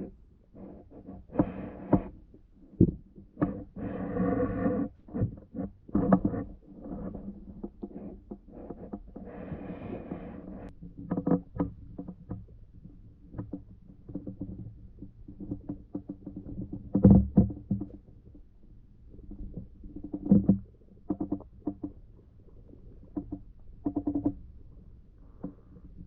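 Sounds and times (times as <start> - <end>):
underwater clicks and knocks: 0.0 - 3.9, 4.9 - 10.0, 10.6 - 26.0.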